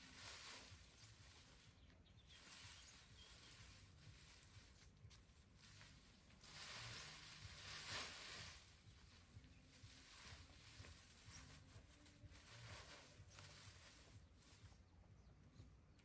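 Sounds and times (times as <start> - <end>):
dry grass rustling: 0.0 - 16.0.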